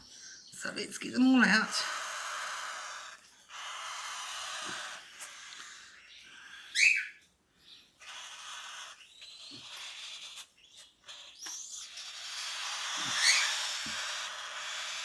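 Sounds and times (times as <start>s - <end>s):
bird squeaking: 1.0s - 7.2s, 8.0s - 15.0s
bird chicks hissing: 1.4s - 15.0s.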